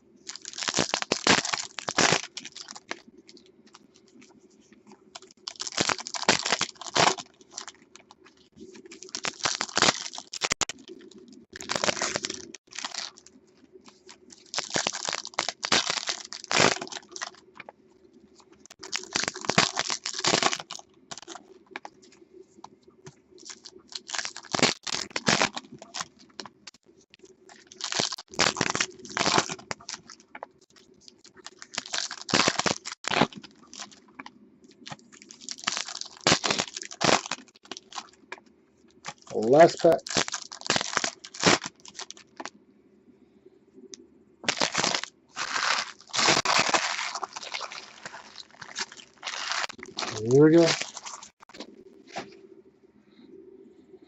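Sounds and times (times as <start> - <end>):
foil wrappers crinkling and tearing: 0.3 - 4.3, 5.1 - 17.7, 18.5 - 22.1, 23.4 - 38.3, 39.0 - 42.5, 44.4 - 52.3.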